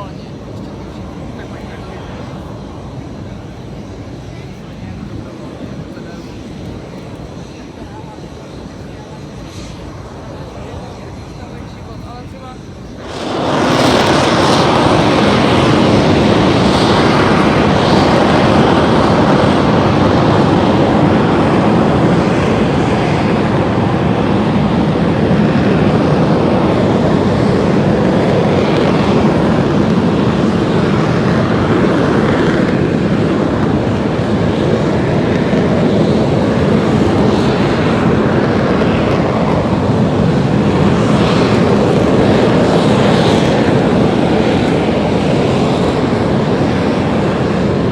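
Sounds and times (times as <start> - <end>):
jet engines rushing: 0.0 - 47.9.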